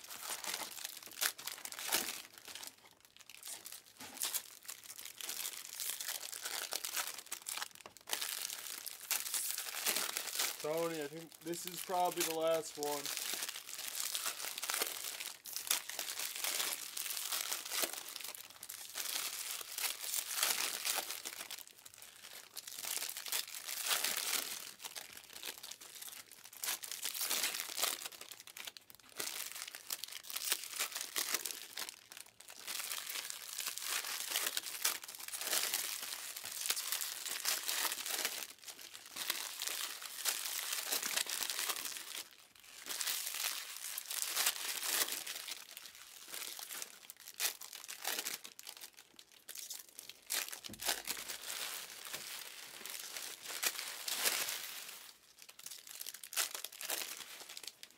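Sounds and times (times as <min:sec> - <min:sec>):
plastic wrappers crinkling and tearing: 0:00.0 - 0:57.9.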